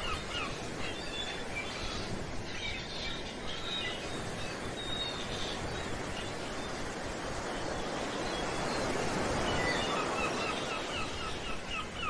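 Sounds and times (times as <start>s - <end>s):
sea surf: 0.0s - 12.0s.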